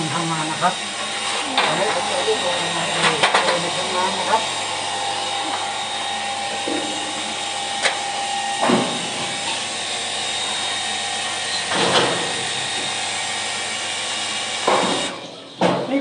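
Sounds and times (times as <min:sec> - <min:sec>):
water pump motor whine: 0:00.0 - 0:15.6.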